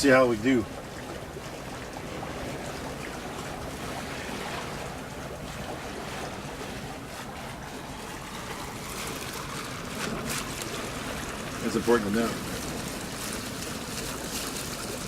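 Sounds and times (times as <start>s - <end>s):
water rushing along hull: 0.0s - 15.0s
wind: 0.0s - 15.0s.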